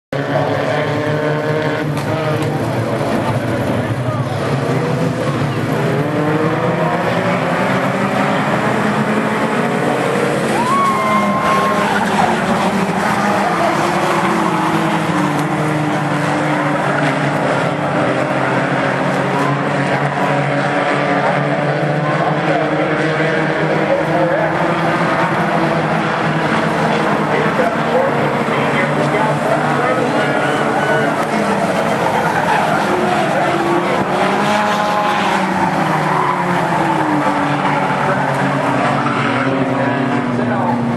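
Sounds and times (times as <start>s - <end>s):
racing car engines: 0.1s - 40.9s.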